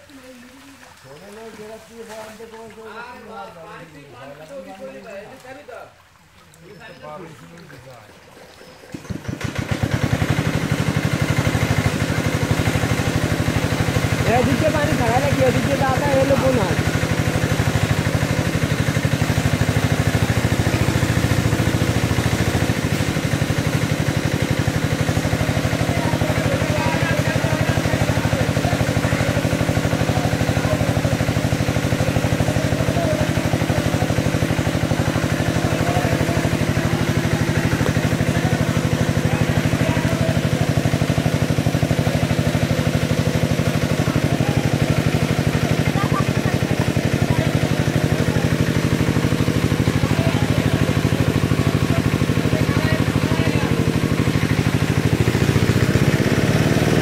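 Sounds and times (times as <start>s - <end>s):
water pump engine droning: 0.0s - 57.0s.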